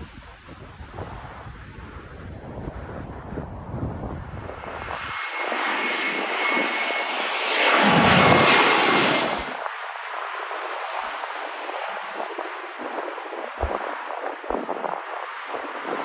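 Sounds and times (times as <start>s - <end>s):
jet airliner passing overhead: 0.0s - 16.0s
distant jet: 2.7s - 16.0s.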